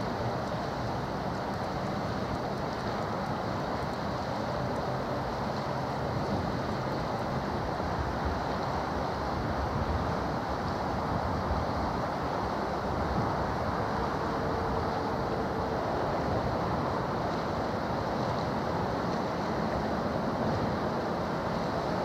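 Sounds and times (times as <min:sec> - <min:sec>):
large ship rumble and hiss: 0:00.0 - 0:22.0
water wash: 0:00.0 - 0:22.0
wind on microphone: 0:00.0 - 0:22.0.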